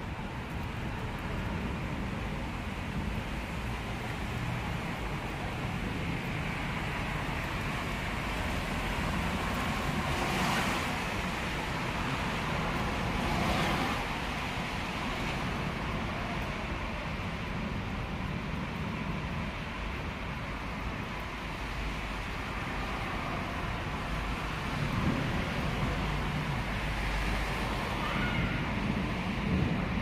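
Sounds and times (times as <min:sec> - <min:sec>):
road noise hiss: 0:00.0 - 0:30.0
vehicles passing: 0:00.0 - 0:30.0.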